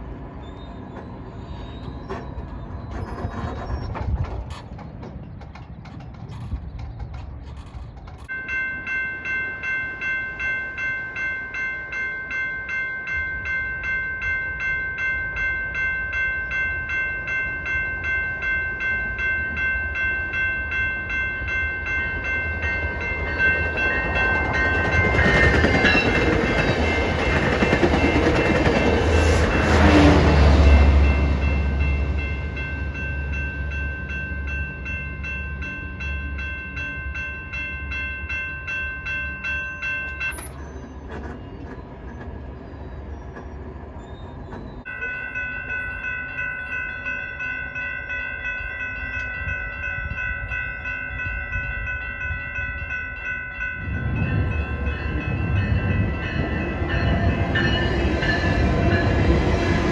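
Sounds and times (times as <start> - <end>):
passenger train passing: 0.0 - 59.9
railroad crossing bell ringing: 7.6 - 59.9.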